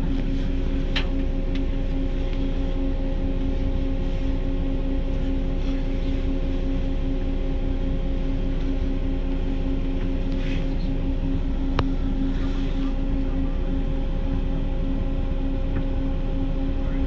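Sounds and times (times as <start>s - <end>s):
train electrical hum and rumble: 0.0s - 17.0s.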